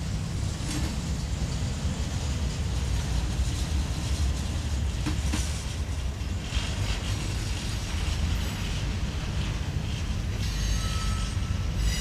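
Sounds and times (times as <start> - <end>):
freight cars rumbling on rails: 0.0 - 12.0.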